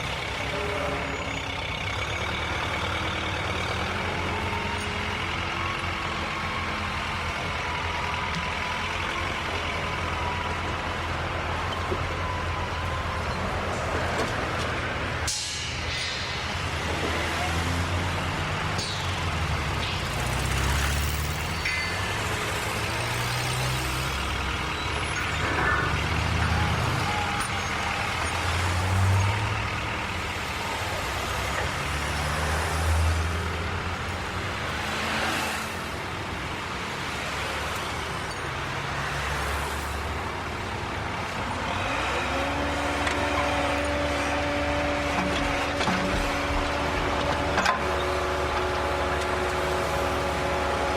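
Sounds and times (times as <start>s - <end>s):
diesel engines rumbling: 0.0s - 50.9s
machinery noise: 0.0s - 50.9s.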